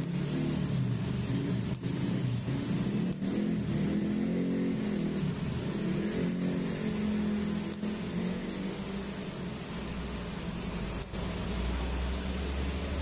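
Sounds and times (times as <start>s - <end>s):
faint hiss: 0.0s - 13.0s
welding arc buzzing hum: 0.0s - 13.0s.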